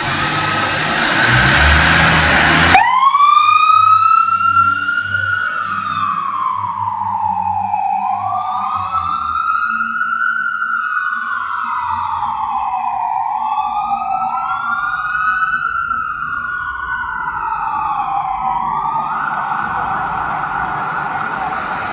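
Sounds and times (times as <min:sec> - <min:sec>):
fire engine siren wailing: 0:00.0 - 0:21.9.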